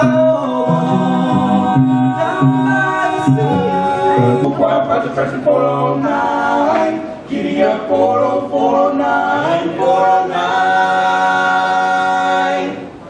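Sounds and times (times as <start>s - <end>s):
male a cappella group singing: 0.0s - 13.0s.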